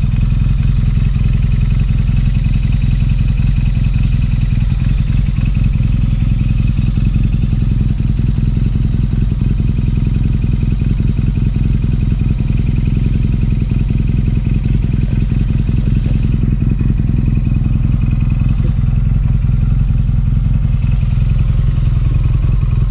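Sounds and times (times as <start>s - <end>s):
motorcycle exhaust running steadily: 0.0s - 22.9s.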